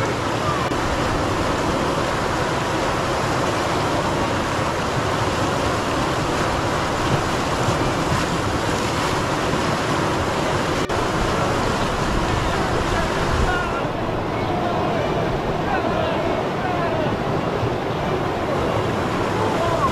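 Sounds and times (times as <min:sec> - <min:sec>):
water rushing over rocks: 0:00.0 - 0:19.9.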